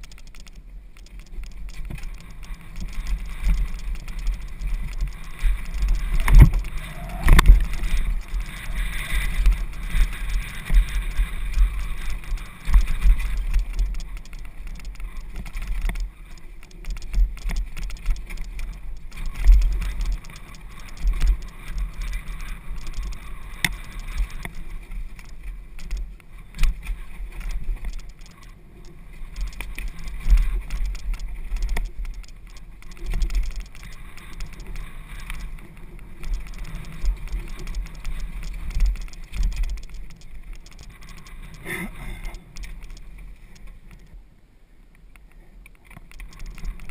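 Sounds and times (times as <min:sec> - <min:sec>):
bike rattling: 0:00.0 - 0:44.2, 0:45.8 - 0:46.9
bike tyres rolling over dirt: 0:00.0 - 0:44.2, 0:45.2 - 0:46.9
wind rumble on microphone: 0:00.0 - 0:44.3.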